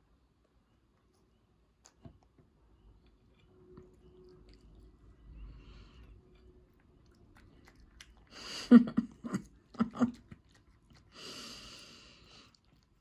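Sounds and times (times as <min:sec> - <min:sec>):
cat chewing food: 0:01.8 - 0:13.0.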